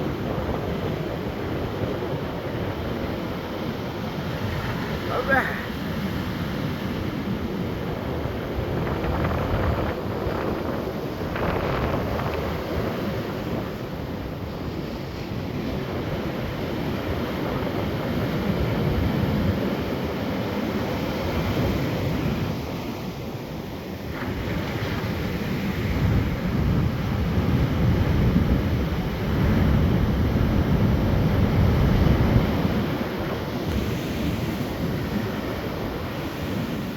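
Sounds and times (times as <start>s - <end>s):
ocean surf breaking on beach: 0.0s - 36.9s
wind buffeting microphone: 0.0s - 36.9s.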